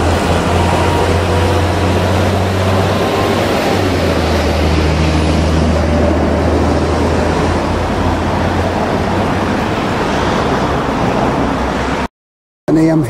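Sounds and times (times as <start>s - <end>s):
road traffic noise: 0.0s - 12.1s
vehicle engine low drone: 0.0s - 12.1s.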